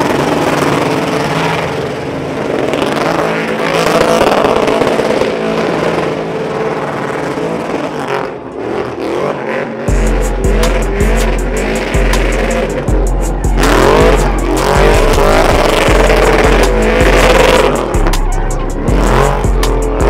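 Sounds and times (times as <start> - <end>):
truck engine at high revs: 0.0 - 20.0.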